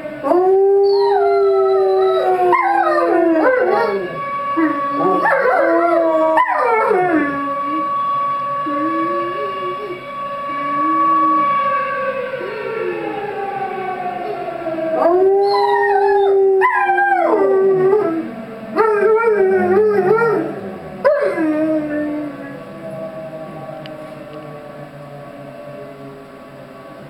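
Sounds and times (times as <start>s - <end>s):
dog howling: 0.0s - 26.2s
tornado siren through a speaker: 0.0s - 27.0s.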